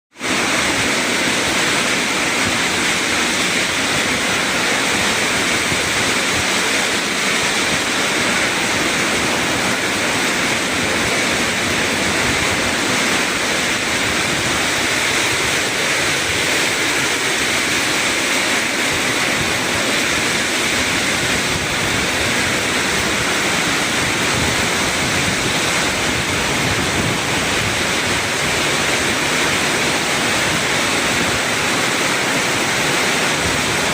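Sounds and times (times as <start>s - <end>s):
heavy rain downpour: 0.1s - 33.9s.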